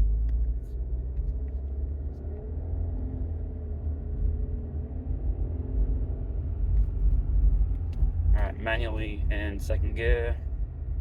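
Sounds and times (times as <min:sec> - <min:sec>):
car exhaust drone inside cabin: 0:00.0 - 0:11.0
road noise: 0:00.0 - 0:11.0.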